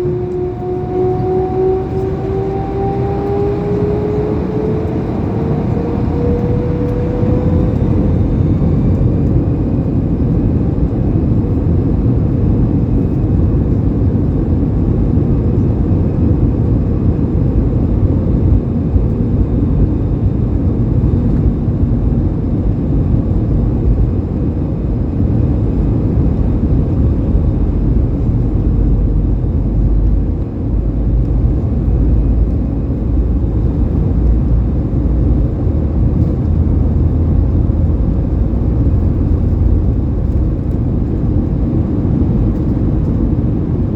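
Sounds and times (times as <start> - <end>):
faint engine whine: 0.0 - 43.9
jet engine rumble: 0.0 - 43.9.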